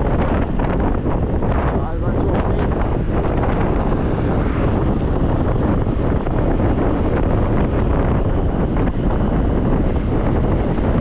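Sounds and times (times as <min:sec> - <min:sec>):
road and engine noise: 0:00.0 - 0:11.0
wind noise on microphone: 0:00.0 - 0:11.0.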